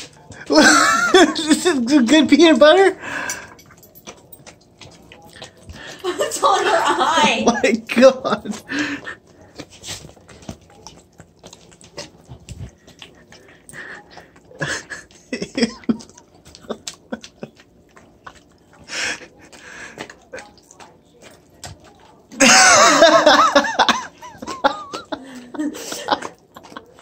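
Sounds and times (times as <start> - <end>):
dogs licking and lip-smacking: 0.0 - 27.0.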